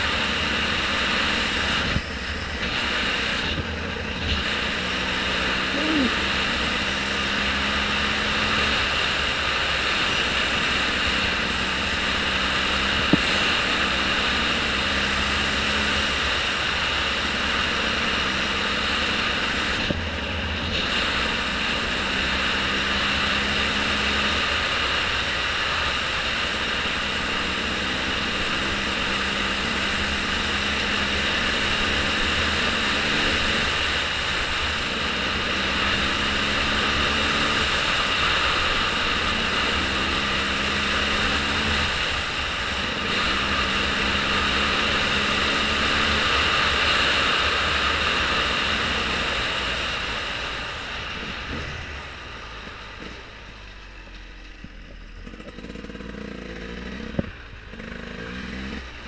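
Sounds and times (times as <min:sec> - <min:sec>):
vehicle engine drone: 0:00.0 - 0:59.0.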